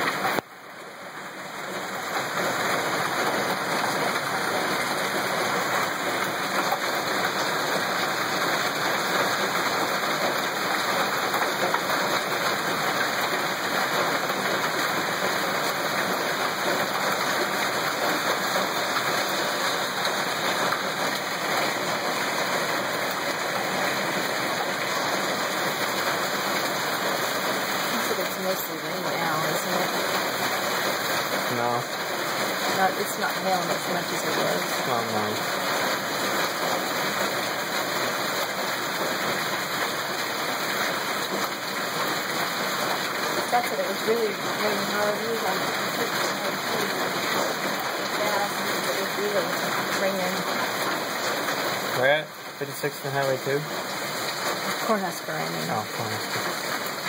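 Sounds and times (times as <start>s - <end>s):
hail and heavy rain pelting: 0.0s - 57.0s.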